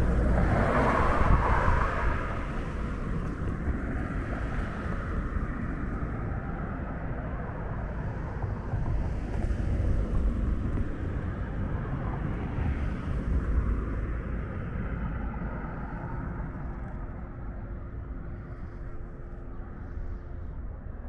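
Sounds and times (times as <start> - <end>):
faint engine hum: 0.0 - 21.0
passing motor vehicles: 0.0 - 21.0.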